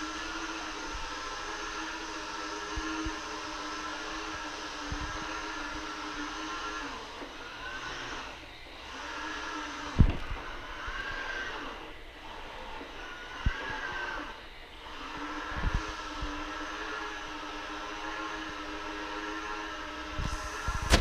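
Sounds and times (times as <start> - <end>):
robot vacuum whirring: 0.0 - 21.0.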